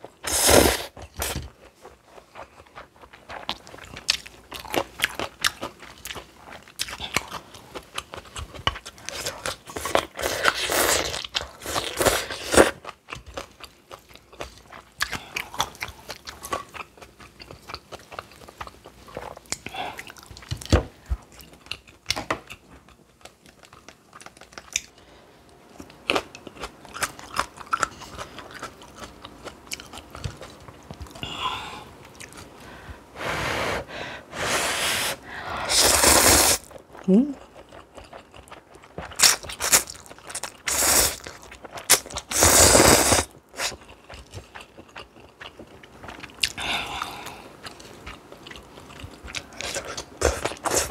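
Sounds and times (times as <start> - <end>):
person crunching and chewing noodles: 0.0 - 25.1, 25.8 - 32.8, 34.4 - 50.9.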